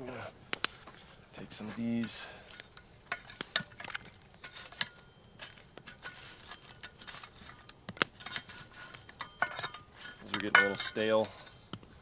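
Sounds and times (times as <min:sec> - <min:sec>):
metal shovel scraping coals: 0:00.1 - 0:12.0.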